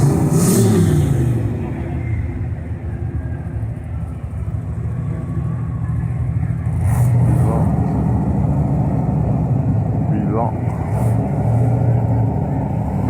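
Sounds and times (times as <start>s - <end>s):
car engine running: 1.6s - 13.0s.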